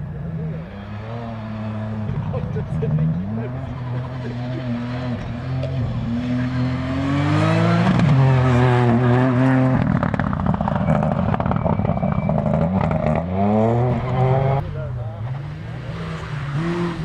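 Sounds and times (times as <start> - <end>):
exhaust crackling: 0.0 - 17.0
rally car engine at full throttle: 0.0 - 17.0.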